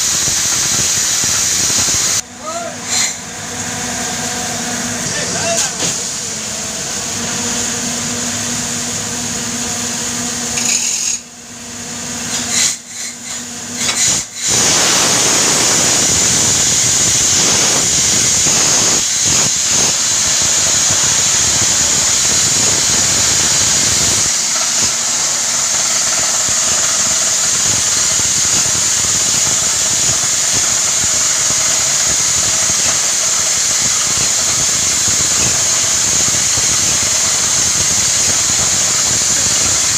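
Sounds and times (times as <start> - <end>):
air compressor hissing: 0.0 - 11.3, 12.0 - 39.9
drilling rig machine noise: 0.0 - 39.9.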